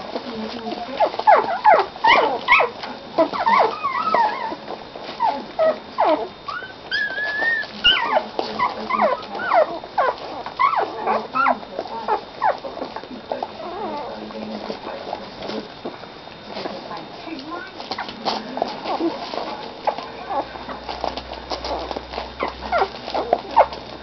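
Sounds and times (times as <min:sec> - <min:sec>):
puppies squeaking and whining: 0:00.0 - 0:15.7, 0:17.6 - 0:24.0.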